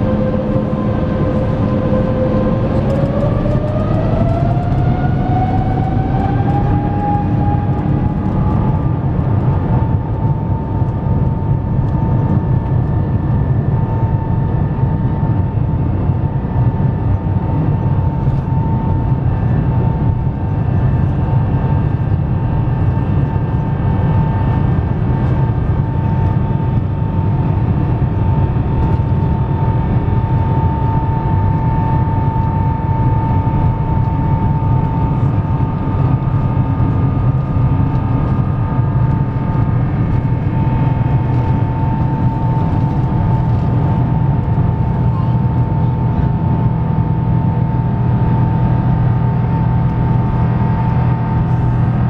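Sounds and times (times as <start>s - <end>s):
high fan whine: 0.0s - 52.0s
jet engine low rumble: 0.0s - 52.0s.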